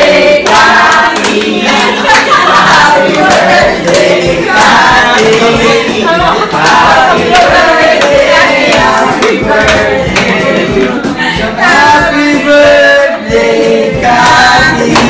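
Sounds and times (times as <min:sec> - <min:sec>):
music with singing voices: 0:00.0 - 0:15.0
sharp steady beat: 0:00.0 - 0:15.0.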